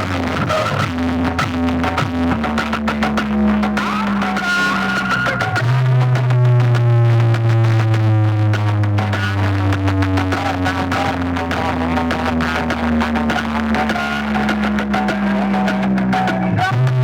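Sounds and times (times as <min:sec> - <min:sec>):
heavy bass note: 0:00.0 - 0:17.0.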